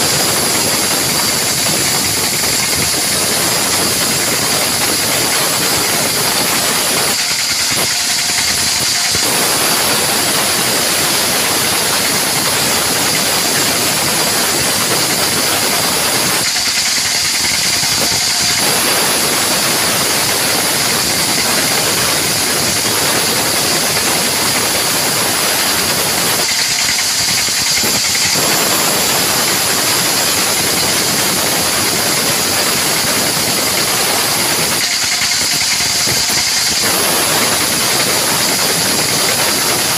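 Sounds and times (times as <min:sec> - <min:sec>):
band saw whine: 0:00.0 - 0:39.9
saw cutting wood: 0:00.0 - 0:39.9.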